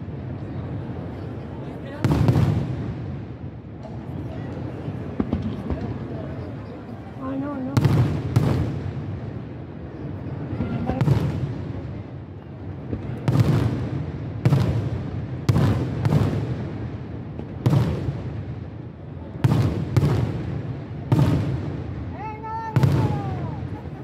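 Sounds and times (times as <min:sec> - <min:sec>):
firework booms with echo: 0:01.8 - 0:06.4, 0:07.5 - 0:24.0.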